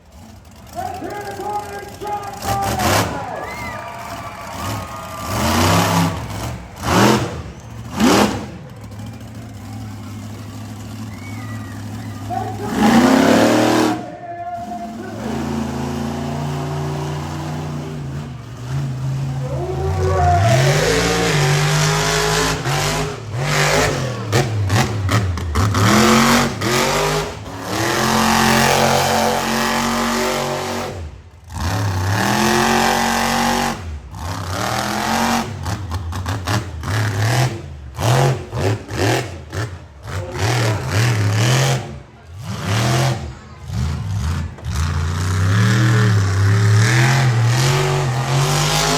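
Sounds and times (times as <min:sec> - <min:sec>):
monster truck engine revving: 0:00.0 - 0:48.9.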